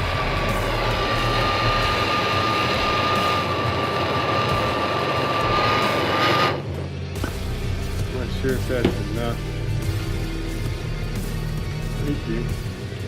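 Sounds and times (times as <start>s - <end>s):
gas torch hissing and whistling: 0.0s - 13.0s.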